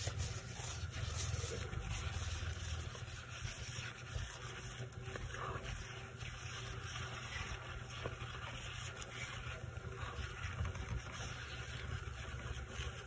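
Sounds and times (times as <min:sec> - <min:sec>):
rubbing and scraping: 0:00.0 - 0:13.0.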